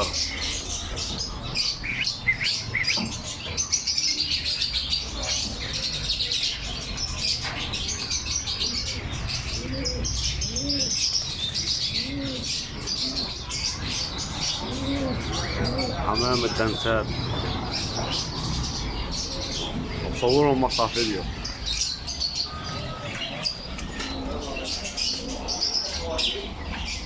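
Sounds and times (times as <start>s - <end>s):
low arching bird calls: 0.0s - 27.0s
small birds chirping: 0.0s - 27.0s.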